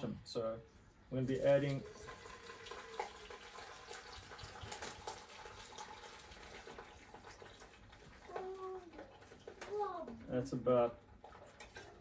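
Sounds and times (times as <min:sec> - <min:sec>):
liquid trickling: 0:01.1 - 0:12.0.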